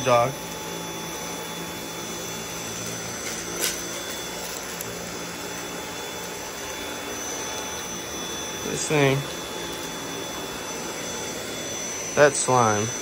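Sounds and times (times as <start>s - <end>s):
vacuum cleaner whine: 0.0s - 13.0s.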